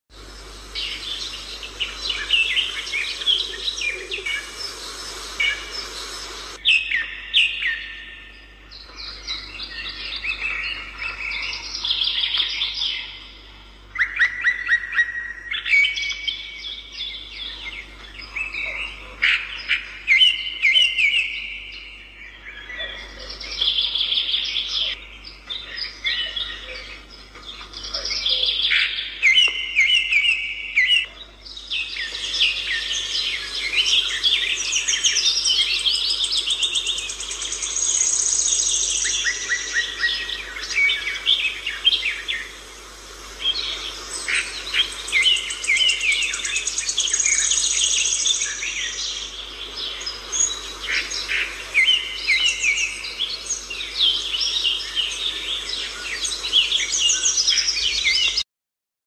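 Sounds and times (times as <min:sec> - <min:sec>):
songbirds chirping and singing: 0:00.2 - 0:58.4.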